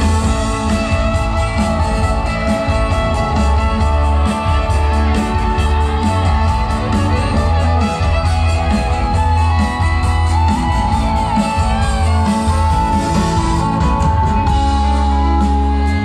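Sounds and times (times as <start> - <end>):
electric guitar: 0.0 - 16.0
live rock band playing: 0.0 - 16.0
steady bass line: 0.0 - 16.0.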